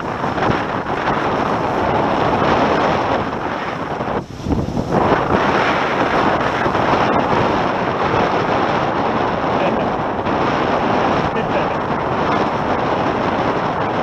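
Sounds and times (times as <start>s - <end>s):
water rushing past hulls: 0.0s - 14.0s
wind buffeting microphone: 0.0s - 14.0s.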